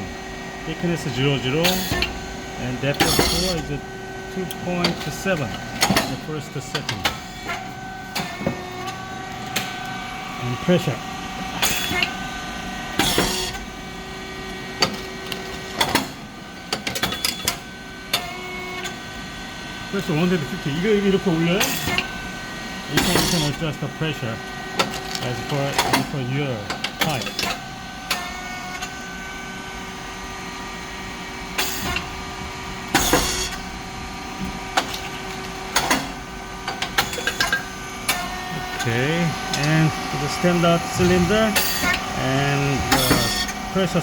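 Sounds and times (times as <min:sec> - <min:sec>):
machine humming: 0:00.0 - 0:16.8, 0:17.8 - 0:44.0.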